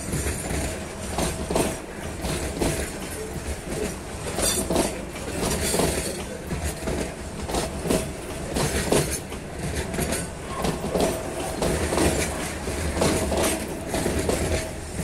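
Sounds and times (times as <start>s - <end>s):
wheels clacking over rail joints: 0.2s - 15.0s.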